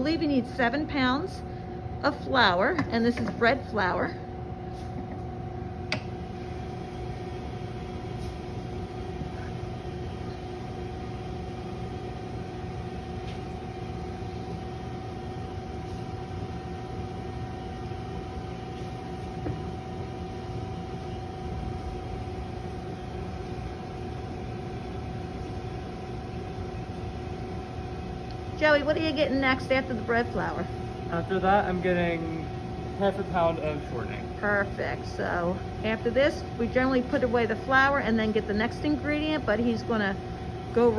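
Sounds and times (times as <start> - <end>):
kitchen equipment humming: 0.0 - 40.9.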